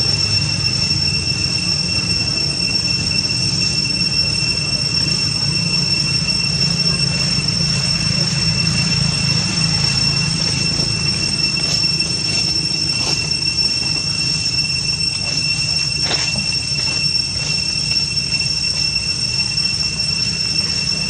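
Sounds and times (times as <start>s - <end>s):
low rumbling hum: 0.0s - 21.0s
steady high-pitched whine: 0.0s - 21.0s.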